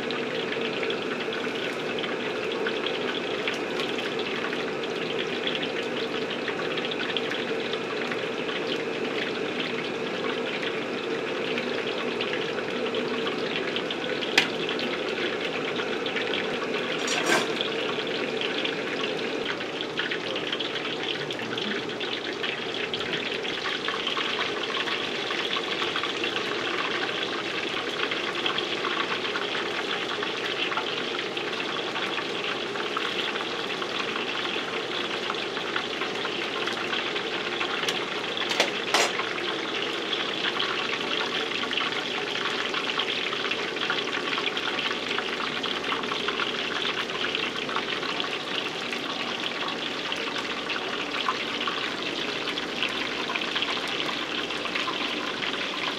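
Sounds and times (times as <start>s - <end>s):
food deep-frying sizzle: 0.0s - 55.9s.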